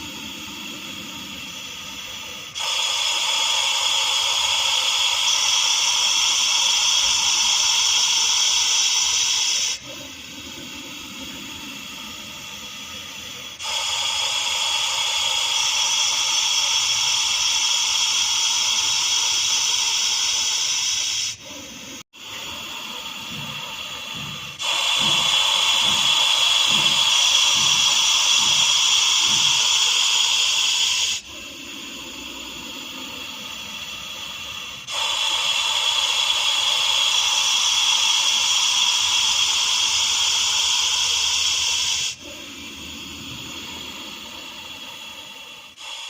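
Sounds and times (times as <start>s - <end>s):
snake hissing: 0.0s - 46.0s.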